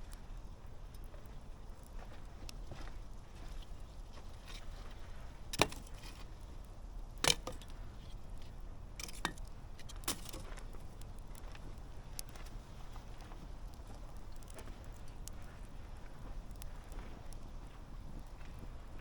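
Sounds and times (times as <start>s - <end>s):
campfire flames rumbling: 0.0s - 19.0s
fire crackling pops: 0.1s - 19.0s.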